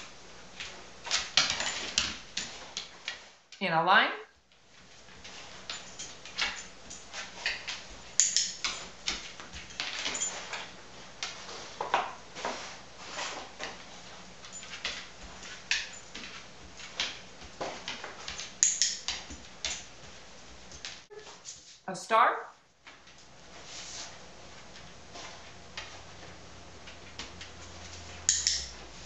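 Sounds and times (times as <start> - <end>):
paws on floor: 4.4 - 21.8, 22.8 - 29.0.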